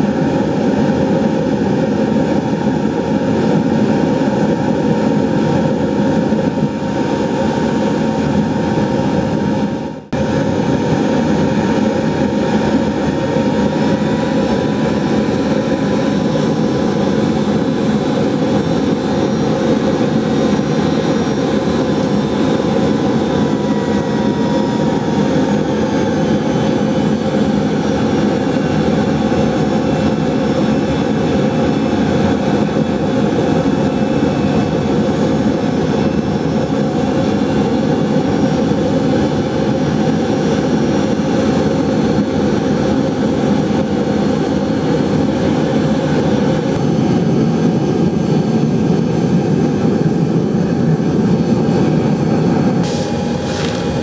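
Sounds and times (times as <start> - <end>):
furnace burner roaring: 0.0 - 41.4, 42.1 - 54.0.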